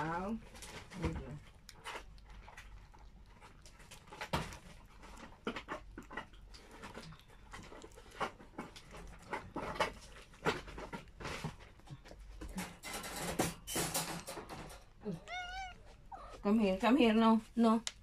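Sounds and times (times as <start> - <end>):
cat eating wet food: 0.0 - 13.4, 14.9 - 16.5.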